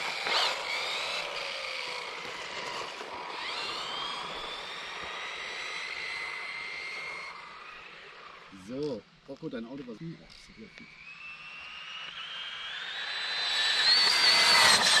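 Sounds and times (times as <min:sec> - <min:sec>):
electric motor whining: 0:00.0 - 0:09.0, 0:09.8 - 0:15.0.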